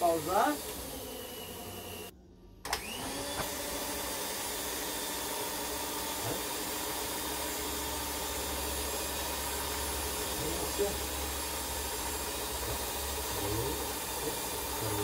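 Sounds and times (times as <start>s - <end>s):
electric stand mixer whirring: 0.0s - 2.1s, 2.7s - 15.0s.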